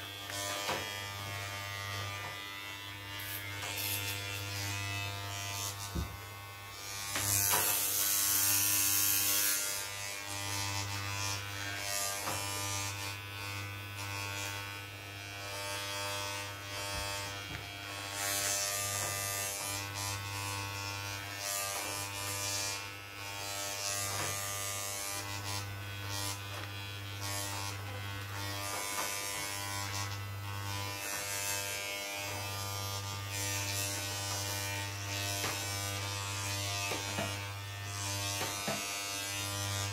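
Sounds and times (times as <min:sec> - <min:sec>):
blades rasping through hair: 0:00.0 - 0:39.9
hair clippers buzzing: 0:00.0 - 0:39.9.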